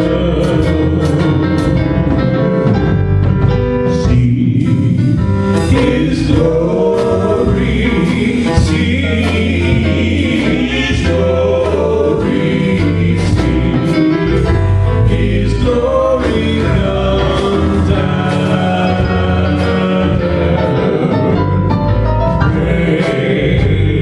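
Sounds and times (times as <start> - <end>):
group of voices singing: 0.0 - 2.0, 3.9 - 24.0
band with heavy bass line: 0.0 - 24.0.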